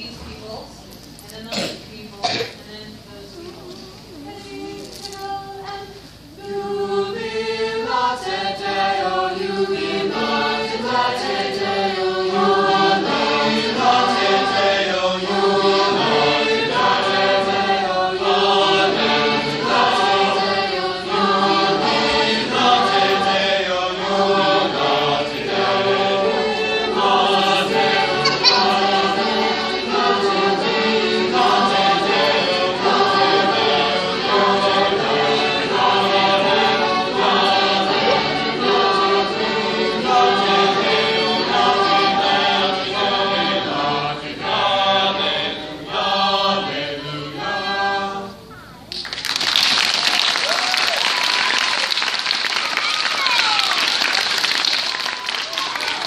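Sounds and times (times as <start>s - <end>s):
choir singing: 2.2s - 48.7s.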